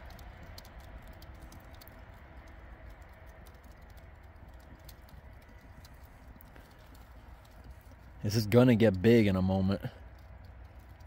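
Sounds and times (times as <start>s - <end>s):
low steady rumble: 0.0s - 11.0s
small fire crackling: 0.0s - 11.0s.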